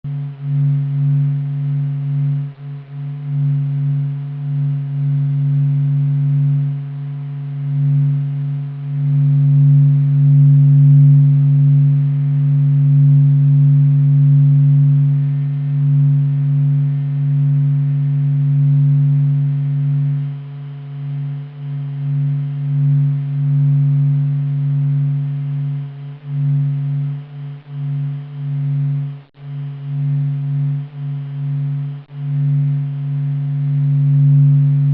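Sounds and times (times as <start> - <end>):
steady low hum with held tones: 0.0 - 34.9.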